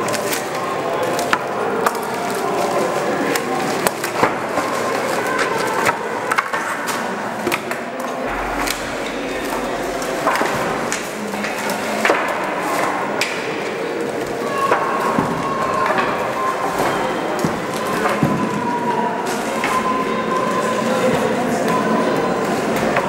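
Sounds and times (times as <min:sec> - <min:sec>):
wooden planks knocking together: 0:00.0 - 0:19.9.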